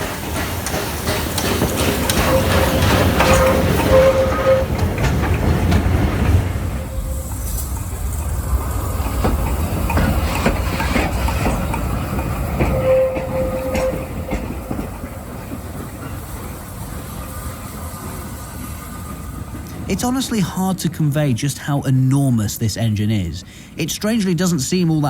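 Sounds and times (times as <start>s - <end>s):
wheels clanking and clicking: 0.0s - 21.6s
steam locomotive rumbling past: 0.0s - 25.0s.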